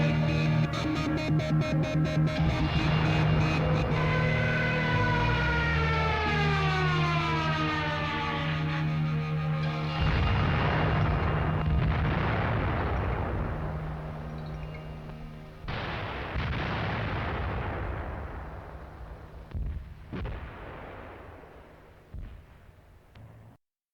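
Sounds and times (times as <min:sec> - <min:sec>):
bomb explosions rumbling: 0:00.0 - 0:23.4.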